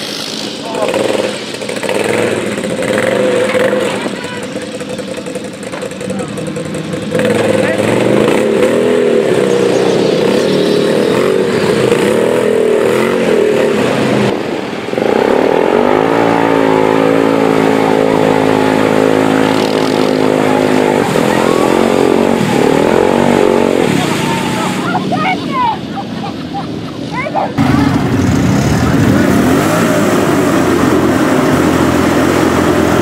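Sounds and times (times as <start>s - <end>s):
quad engine revving: 0.0s - 33.0s.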